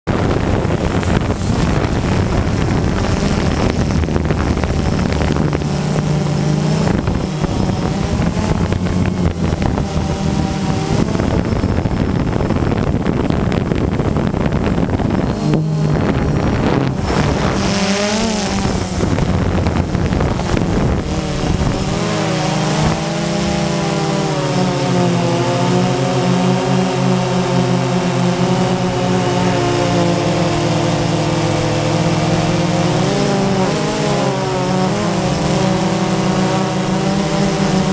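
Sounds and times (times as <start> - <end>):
drone propellers buzzing: 0.1 - 37.9
wind rushing over microphone: 0.1 - 37.9.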